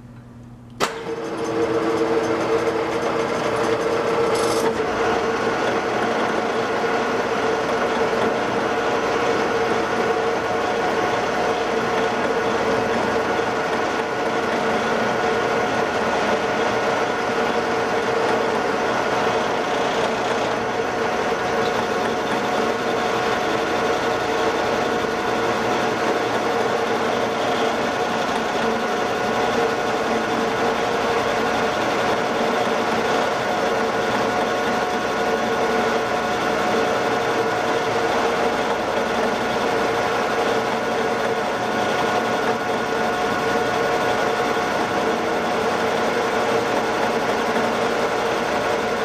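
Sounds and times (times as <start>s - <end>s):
metal lathe running: 0.8s - 49.0s.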